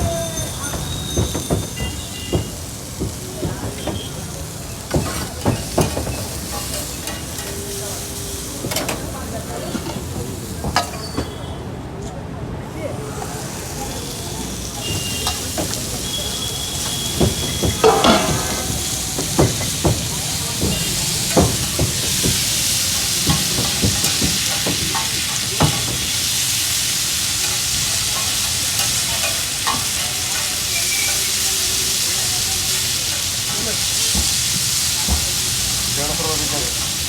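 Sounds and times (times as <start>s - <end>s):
food sizzling in oil: 0.0s - 11.6s, 12.7s - 37.0s.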